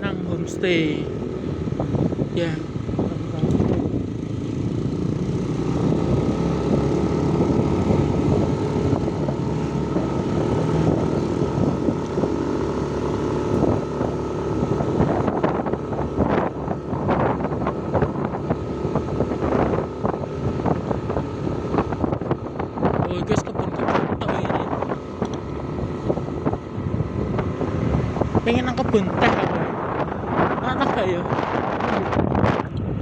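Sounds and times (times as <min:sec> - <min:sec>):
vehicle engine running: 0:00.0 - 0:33.0
wind noise on microphone: 0:00.0 - 0:33.0.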